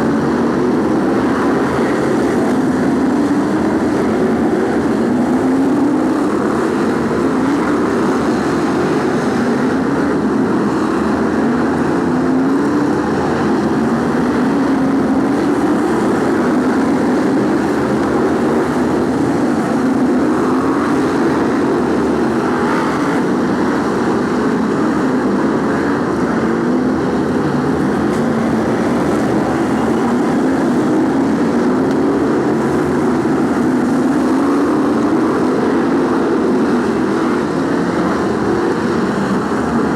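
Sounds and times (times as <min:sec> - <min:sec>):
race car engines running hard: 0:00.0 - 0:39.9.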